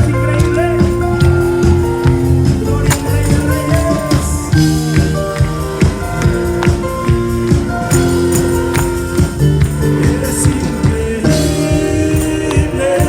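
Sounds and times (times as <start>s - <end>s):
live band music: 0.0s - 13.0s
steady drum beat: 0.0s - 13.0s
tambourine: 0.0s - 13.0s.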